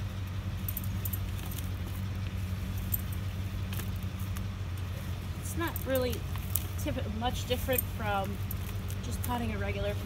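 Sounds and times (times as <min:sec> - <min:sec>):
soil rustling and crunching: 0:00.0 - 0:10.0
steady low hum: 0:00.0 - 0:10.0.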